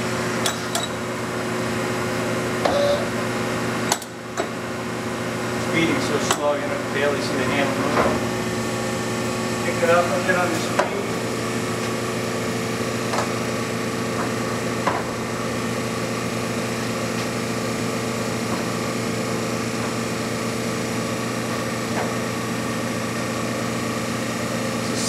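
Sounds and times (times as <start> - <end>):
lathe motor humming: 2.0 - 25.0.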